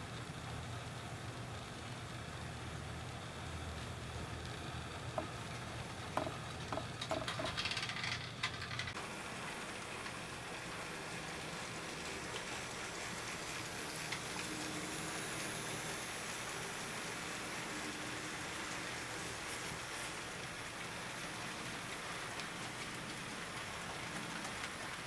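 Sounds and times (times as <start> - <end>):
light clicks of passing train: 0.0 - 25.0
model train wheels rolling on rail: 0.0 - 25.0.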